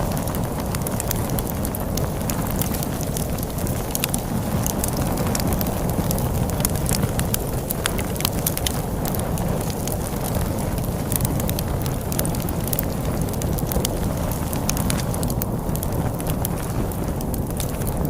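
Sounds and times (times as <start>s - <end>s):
low storm wind rumble: 0.0s - 18.0s
wood fire crackling and popping: 0.0s - 18.0s.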